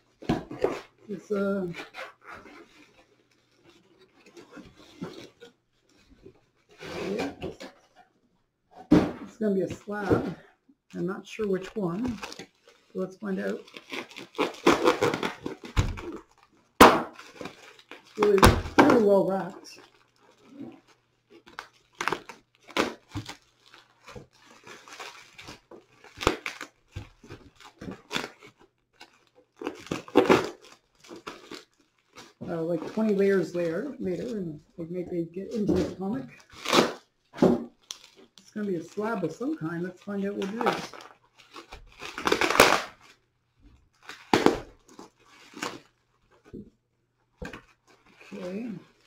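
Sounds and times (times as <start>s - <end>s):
plastic wrap and cardboard tearing: 0.0s - 8.1s, 8.8s - 46.7s, 47.3s - 49.0s.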